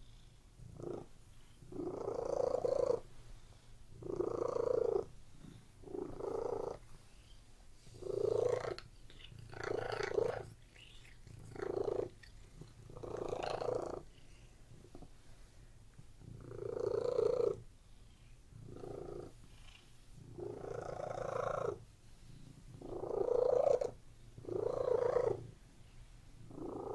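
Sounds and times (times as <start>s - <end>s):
cat purring: 0.0s - 25.6s, 26.4s - 26.9s.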